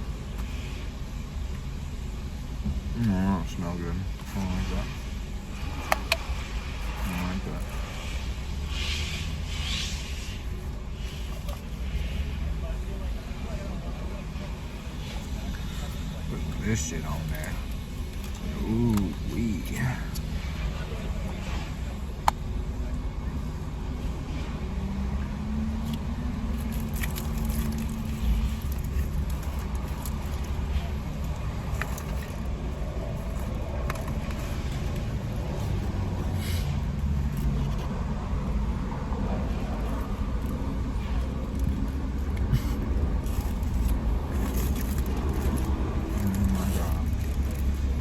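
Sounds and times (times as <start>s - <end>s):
vehicle motor rumble: 0.0s - 48.0s.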